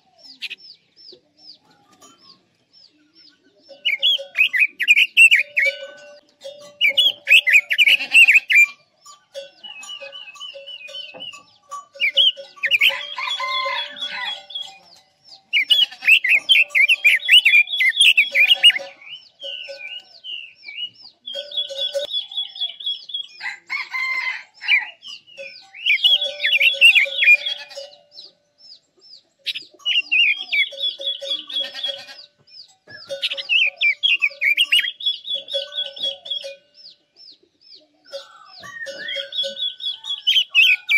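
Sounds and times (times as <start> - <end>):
bird warbling song: 0.0 - 23.6, 24.2 - 40.9.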